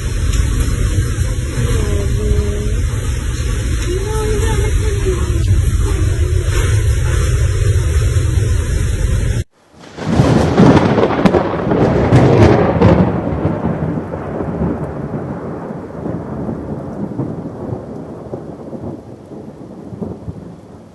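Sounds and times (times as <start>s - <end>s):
steady rain: 0.0s - 20.9s
thunder crack and rumble: 0.0s - 20.9s.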